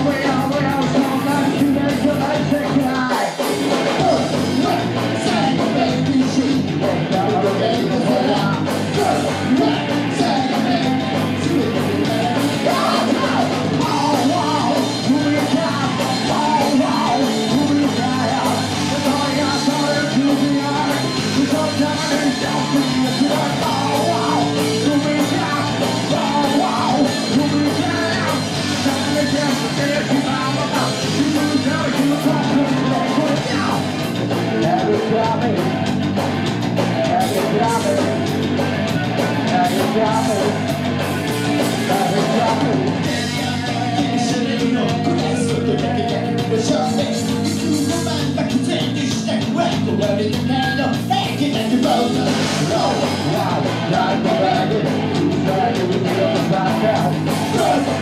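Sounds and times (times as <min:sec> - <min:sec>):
person singing: 0:00.0 - 0:35.9, 0:36.8 - 0:58.0
bass guitar: 0:00.0 - 0:58.0
drums: 0:00.0 - 0:58.0
electric guitars: 0:00.0 - 0:58.0.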